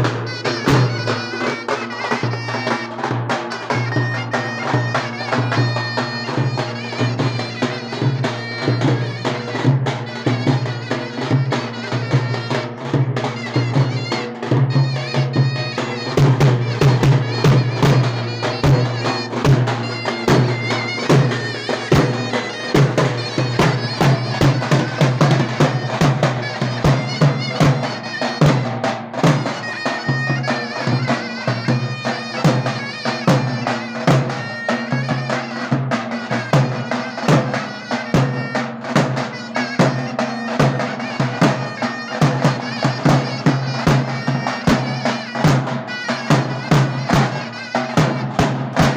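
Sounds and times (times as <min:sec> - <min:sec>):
drum beats: 0:00.0 - 0:48.9
shrill double-reed pipe melody: 0:00.0 - 0:48.9.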